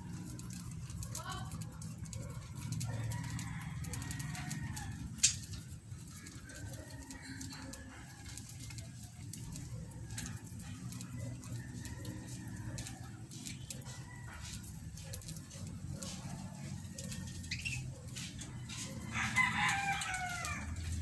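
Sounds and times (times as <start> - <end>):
small clicks: 0.0 - 21.0.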